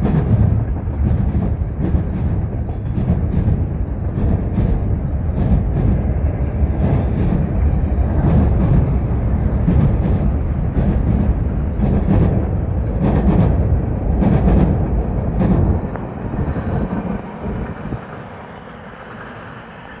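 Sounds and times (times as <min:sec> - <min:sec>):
wheel clacks on rail joints: 0:00.0 - 0:16.1
freight train rumble: 0:00.0 - 0:20.0.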